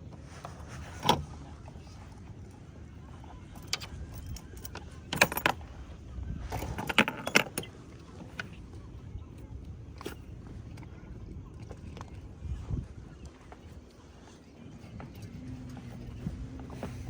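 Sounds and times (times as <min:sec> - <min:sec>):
low steady rumble: 0:00.0 - 0:17.0
metallic clinks of boat gear: 0:00.2 - 0:17.0.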